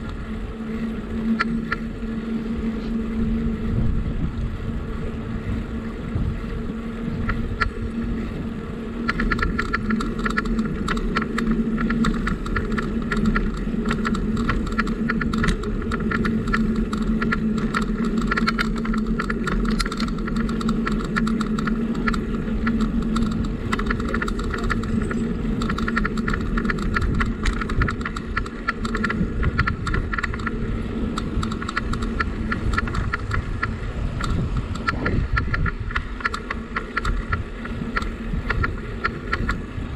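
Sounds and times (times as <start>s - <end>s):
bicycle rumbling and rattling: 0.0s - 39.9s
wind on microphone: 0.0s - 39.9s.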